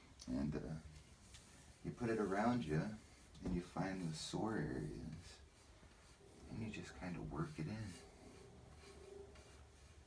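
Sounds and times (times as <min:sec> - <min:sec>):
faint soft sounds: 0:00.0 - 0:10.0.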